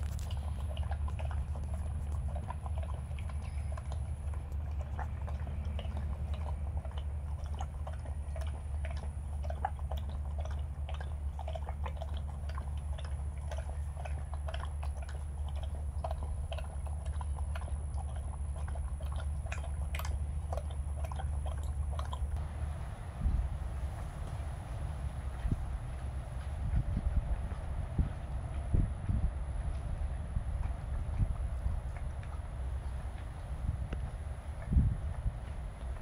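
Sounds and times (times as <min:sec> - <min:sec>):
dog lapping from metal bowl: 0:00.0 - 0:22.8, 0:23.4 - 0:36.0
steady low rumble: 0:00.0 - 0:36.0.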